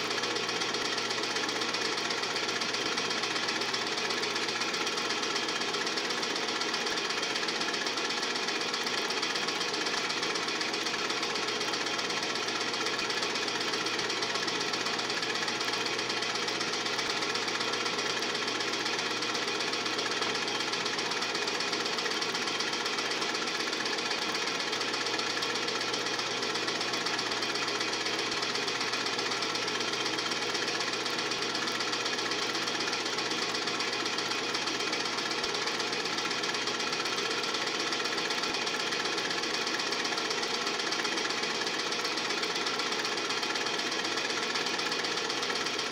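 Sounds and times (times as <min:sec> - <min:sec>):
film projector clattering: 0:00.0 - 0:45.9.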